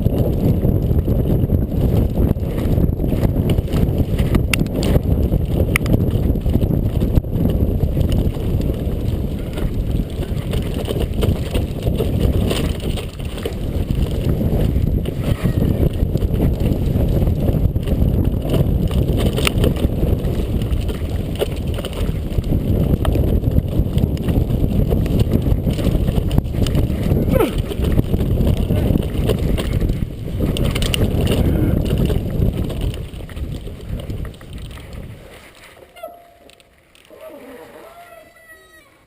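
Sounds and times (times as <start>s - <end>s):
bike clicks and rattles: 0.0s - 38.0s
wind rushing over microphone: 0.0s - 38.9s
bike tyre noise: 0.0s - 39.0s.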